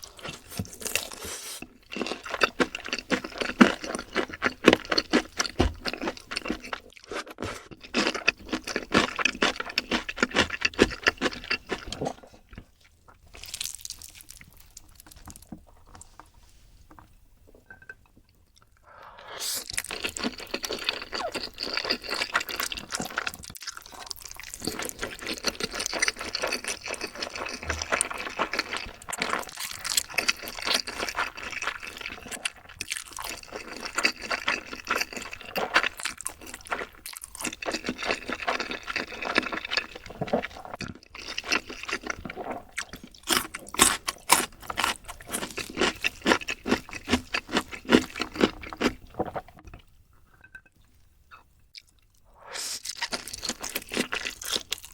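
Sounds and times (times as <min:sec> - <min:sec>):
wet chewing and slurping: 0:00.0 - 0:16.3, 0:18.6 - 0:50.7, 0:51.3 - 0:54.9.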